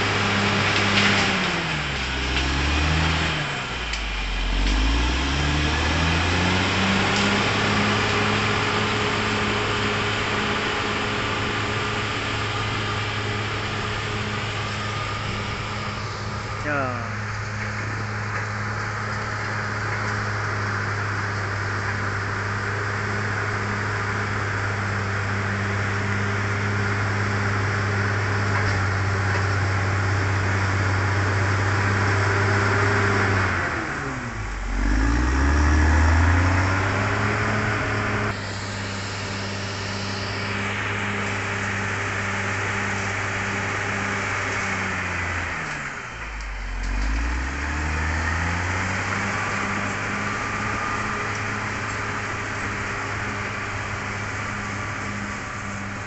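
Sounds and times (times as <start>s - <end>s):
bulldozer diesel engine running hard: 0.0s - 56.0s.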